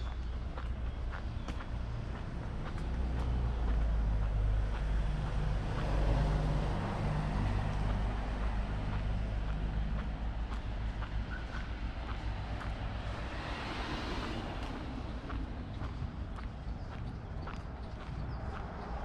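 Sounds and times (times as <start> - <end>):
faint footsteps on pavement: 0.0 - 19.0
low traffic rumble: 0.0 - 19.0
car passing: 0.9 - 19.0.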